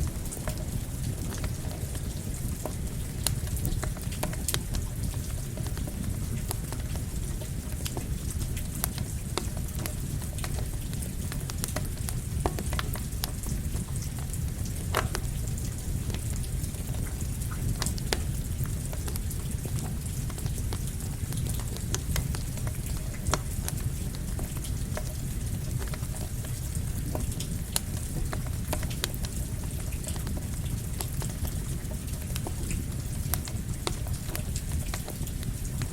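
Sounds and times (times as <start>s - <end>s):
campfire crackling and popping: 0.0s - 35.9s
steady rain: 0.0s - 35.9s.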